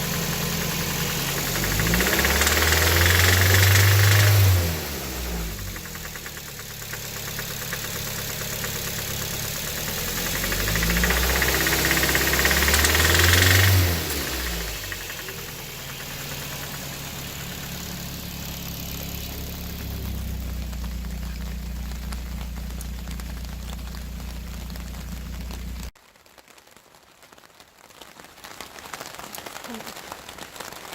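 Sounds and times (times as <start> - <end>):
engine revving: 0.0 - 25.9
car engine idling with rattle: 0.0 - 26.0.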